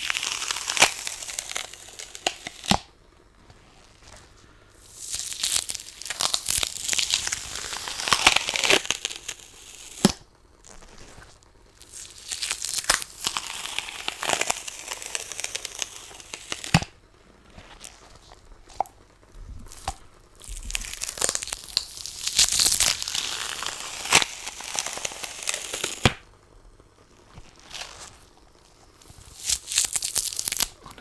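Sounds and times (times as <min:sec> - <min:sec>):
lint roller sheet crackling: 0:00.0 - 0:31.0.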